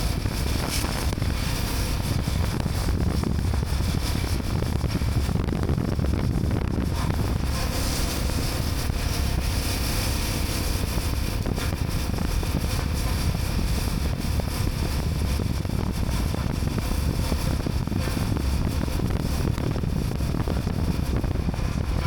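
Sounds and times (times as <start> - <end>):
motorcycle engine and road noise: 0.0 - 22.0
wind buffeting microphone: 0.0 - 22.0.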